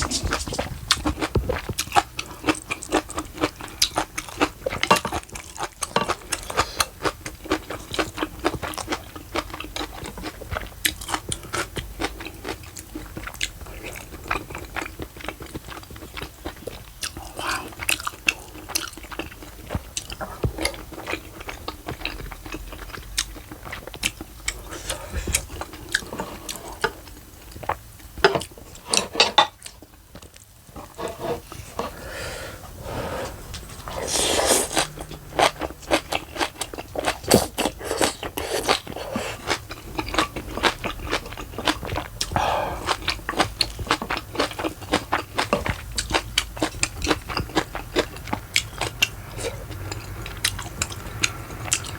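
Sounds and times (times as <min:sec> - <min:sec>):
person chewing and crunching: 0:00.0 - 0:51.9.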